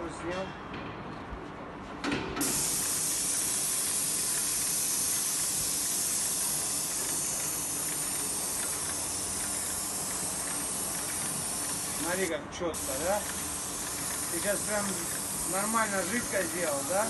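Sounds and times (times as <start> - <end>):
paint spray gun hissing: 2.4 - 17.0.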